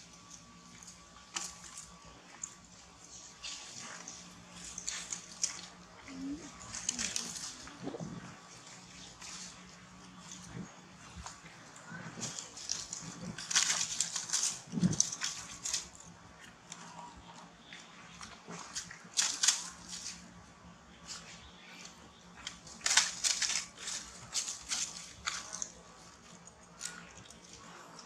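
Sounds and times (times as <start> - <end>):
dry leaves rustling: 0.0 - 16.9, 18.2 - 28.0.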